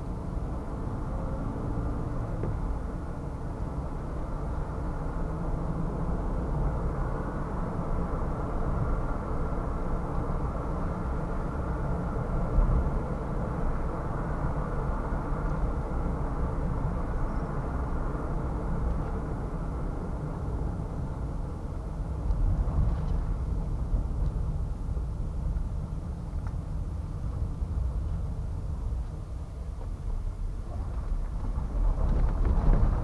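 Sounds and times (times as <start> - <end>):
car driving noise: 0.0 - 33.0.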